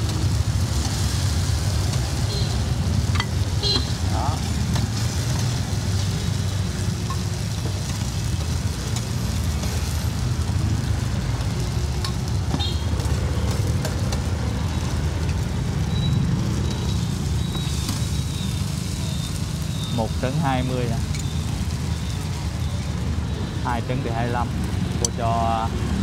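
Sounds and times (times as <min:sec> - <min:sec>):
cake sizzling in oil: 0:00.0 - 0:26.0
street traffic rumble: 0:00.0 - 0:26.0.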